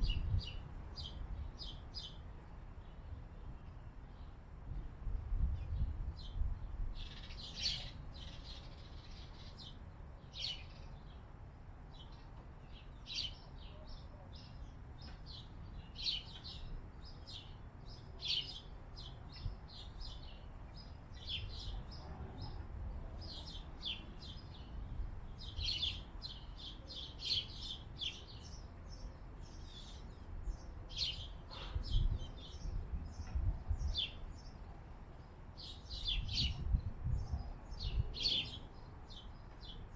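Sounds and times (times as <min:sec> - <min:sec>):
wild birds chirping: 0:05.7 - 0:11.3, 0:11.9 - 0:39.9.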